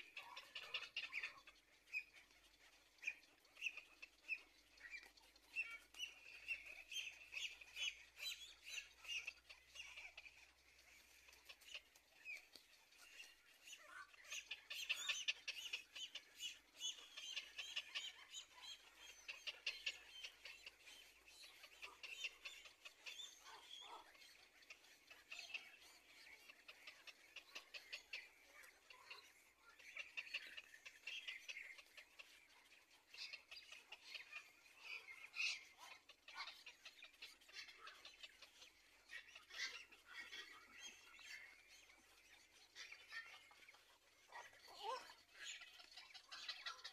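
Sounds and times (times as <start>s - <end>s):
heron chick clicking chatter: 0.0s - 46.9s.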